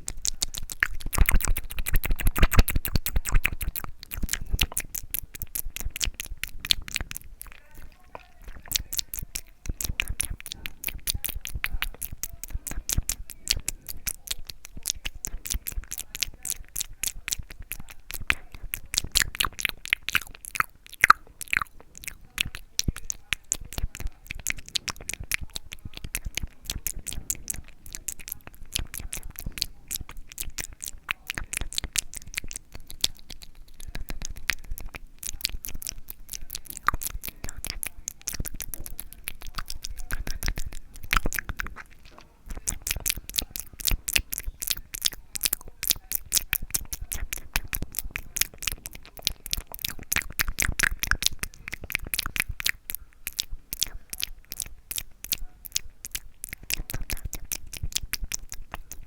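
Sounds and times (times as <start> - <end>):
lip and tongue clicks: 0.0 - 59.0.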